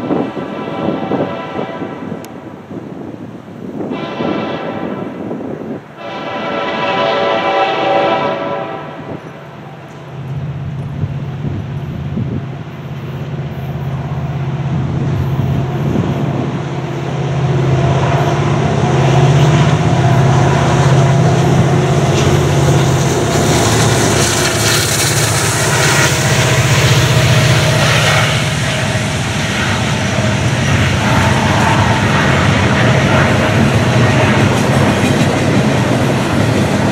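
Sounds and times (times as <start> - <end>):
train wheels on rails: 0.0 - 36.9
locomotive engine rumble: 6.2 - 36.9.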